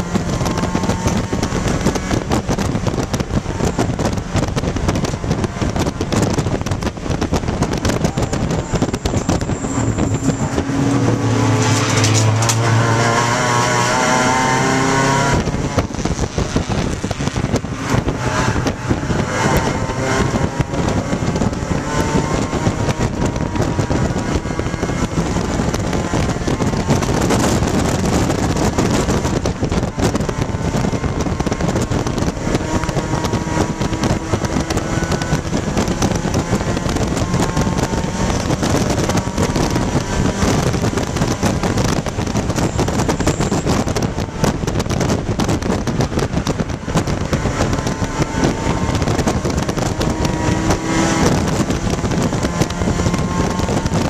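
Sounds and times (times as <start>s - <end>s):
race car engine running hard: 0.0s - 54.0s
wind and road noise: 0.0s - 54.0s.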